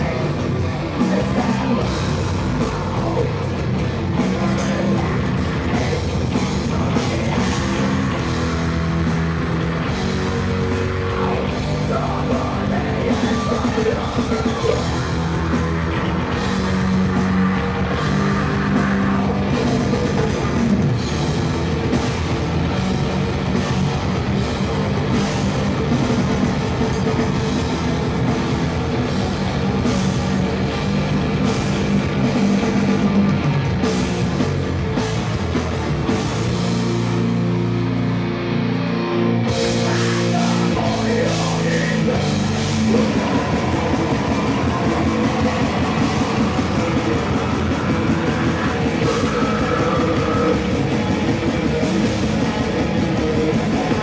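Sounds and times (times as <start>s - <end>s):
heavy metal band playing: 0.0s - 54.0s.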